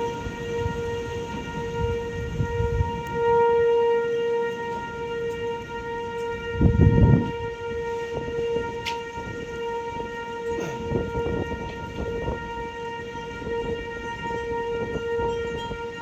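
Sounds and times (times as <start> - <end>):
warning siren steady tone: 0.0 - 16.0
wind buffeting microphone: 0.0 - 16.0.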